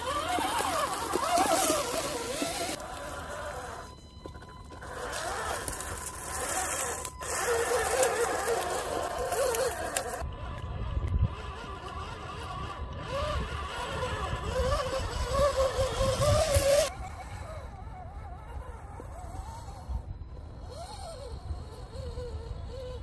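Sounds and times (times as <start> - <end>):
small motor and gears whining: 0.0 - 23.0.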